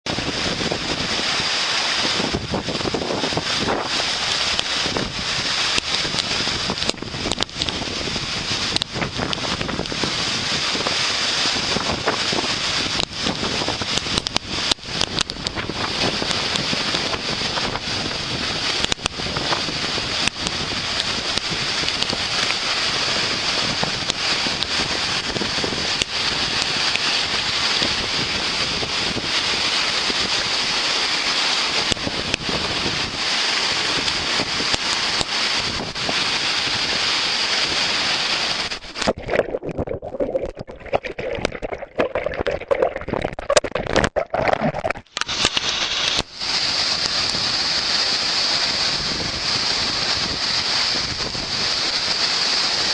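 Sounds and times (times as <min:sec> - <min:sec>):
wind buffeting microphone: 0:00.1 - 0:30.8, 0:31.8 - 0:45.4, 0:46.1 - 0:52.9
waterfall rushing: 0:00.1 - 0:52.9.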